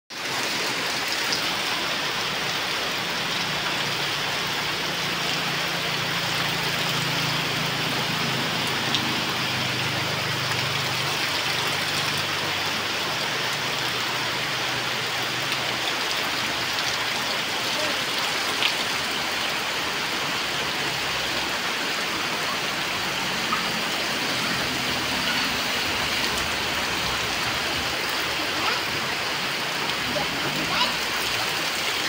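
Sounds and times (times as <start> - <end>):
heavy rain splashing: 0.1 - 32.0.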